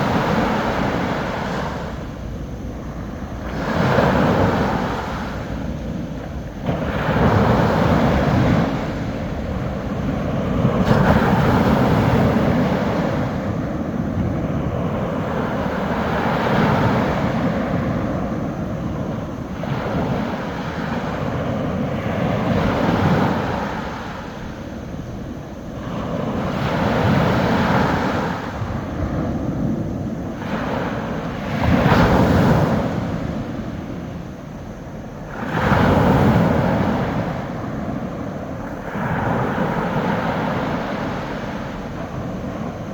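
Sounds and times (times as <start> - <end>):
small waves breaking on a beach: 0.0 - 42.9.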